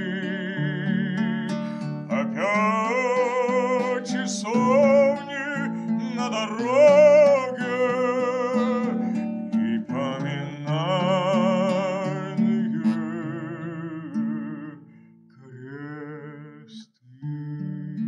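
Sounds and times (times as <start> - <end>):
plucked lute: 0.0 - 14.7
man singing with vibrato: 0.0 - 18.0.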